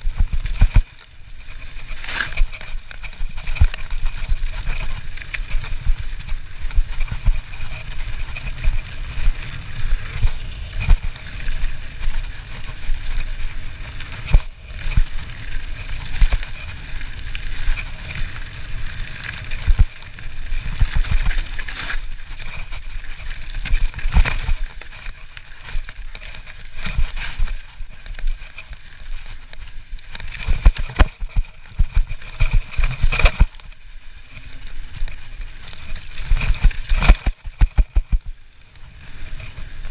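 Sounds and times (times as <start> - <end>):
bike rattling and knocking: 0.0 - 39.9
tyres rolling over dirt: 0.0 - 39.9.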